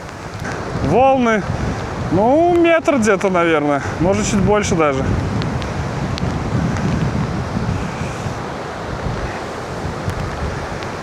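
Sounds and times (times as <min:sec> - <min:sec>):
sea waves breaking: 0:00.0 - 0:11.0
wind buffeting microphone: 0:00.0 - 0:11.0.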